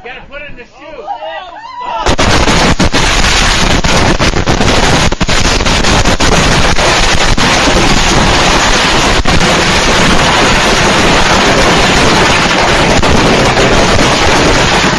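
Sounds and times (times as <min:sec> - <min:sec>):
fireworks bangs: 0:02.0 - 0:14.9
fireworks hissing and crackling: 0:02.0 - 0:14.9.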